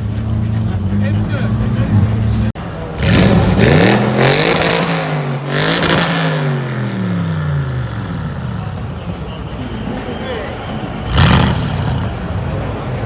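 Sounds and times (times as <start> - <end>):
car exhaust revving hard: 0.0 - 8.6, 11.0 - 13.0.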